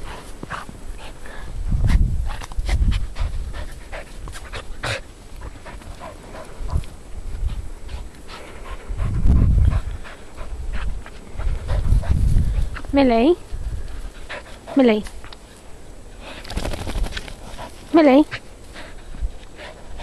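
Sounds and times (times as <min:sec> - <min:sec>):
dog panting hard: 0:00.0 - 0:12.9, 0:14.0 - 0:15.0, 0:16.2 - 0:20.0.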